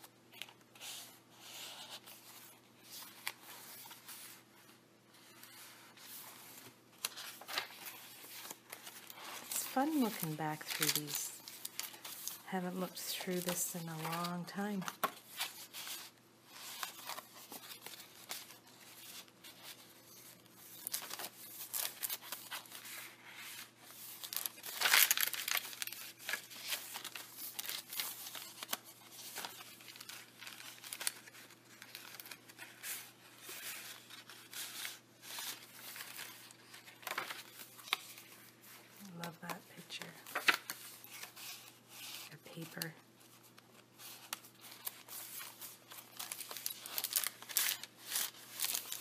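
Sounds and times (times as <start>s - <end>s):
paper pages rustling: 0.3s - 49.0s.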